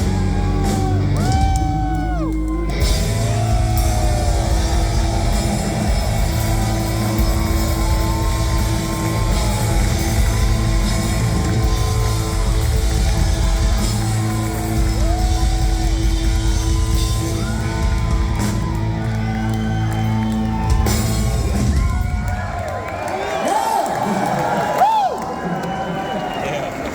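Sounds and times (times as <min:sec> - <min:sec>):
loud rock music with vocals: 0:00.0 - 0:22.1.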